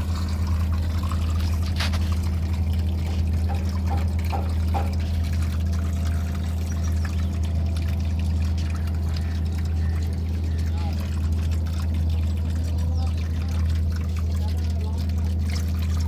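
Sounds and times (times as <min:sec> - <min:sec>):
liquid pouring out: 0:00.0 - 0:16.0
steady low hum: 0:00.0 - 0:16.0.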